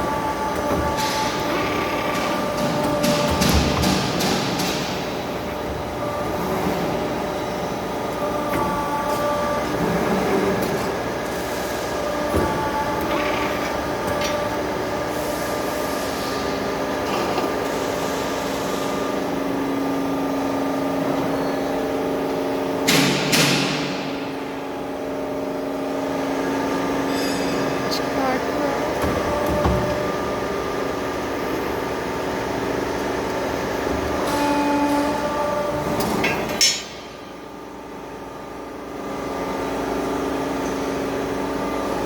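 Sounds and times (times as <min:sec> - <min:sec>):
machine humming with motor tones: 0:00.0 - 0:42.0.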